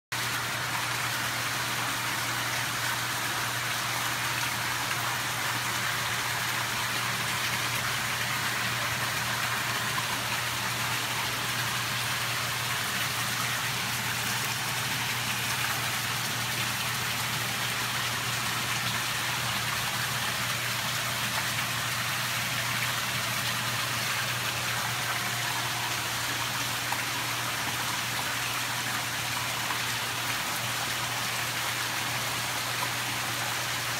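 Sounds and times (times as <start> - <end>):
water splashing and bubbling: 0.1 - 33.9.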